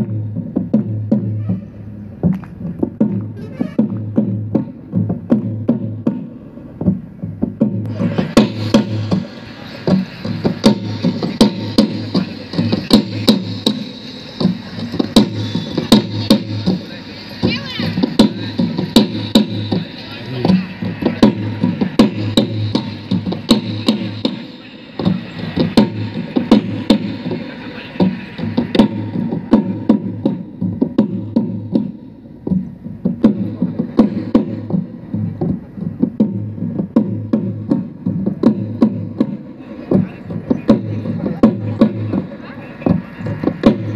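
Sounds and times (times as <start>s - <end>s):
folk dance music: 0.0s - 43.9s
low drum beat: 0.0s - 43.9s.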